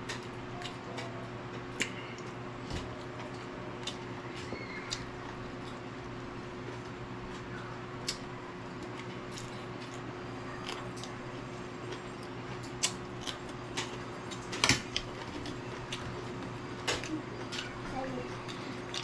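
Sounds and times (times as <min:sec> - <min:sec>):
steady low hum: 0:00.0 - 0:19.0
crunchy chewing of vegetables: 0:00.3 - 0:19.0.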